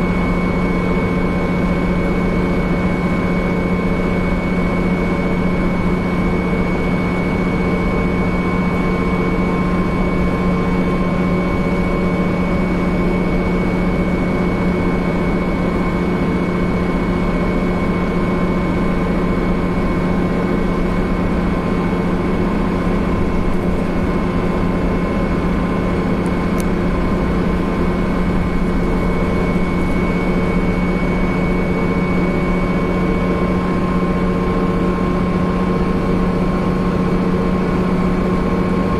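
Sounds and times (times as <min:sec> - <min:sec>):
train low hum: 0:00.0 - 0:38.9.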